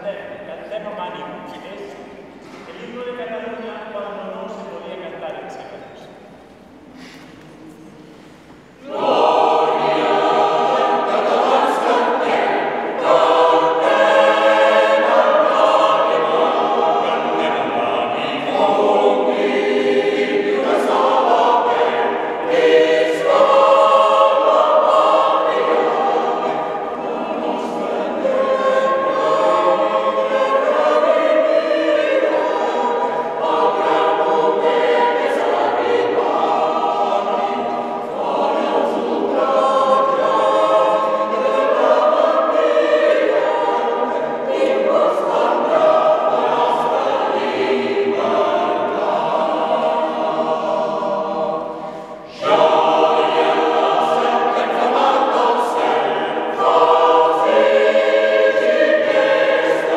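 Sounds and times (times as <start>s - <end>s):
mixed choir singing unaccompanied: 6.7s - 59.9s.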